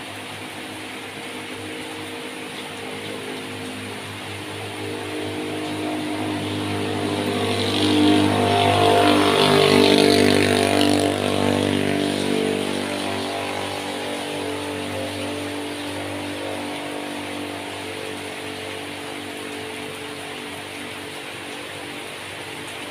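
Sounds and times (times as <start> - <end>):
rain falling on water: 0.0 - 22.9
vehicle engine hum: 0.0 - 22.9.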